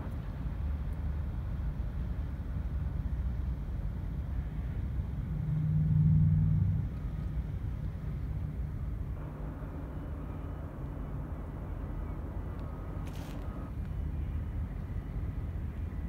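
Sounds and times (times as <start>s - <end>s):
low hum: 0.0s - 16.0s
low outdoor rumble: 0.0s - 16.0s.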